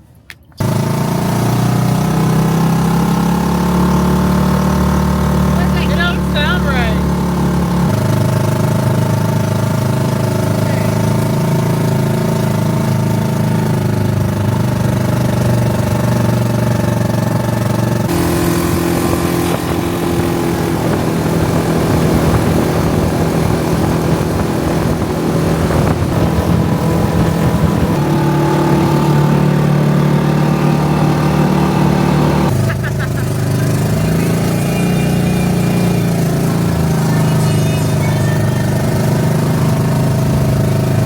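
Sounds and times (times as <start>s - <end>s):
small vehicle engine running: 0.5s - 41.0s.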